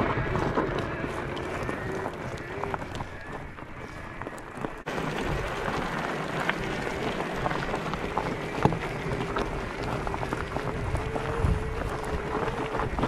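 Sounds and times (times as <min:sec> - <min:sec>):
bike tyres rolling on gravel: 0:00.0 - 0:13.0
wind on microphone: 0:00.0 - 0:13.0.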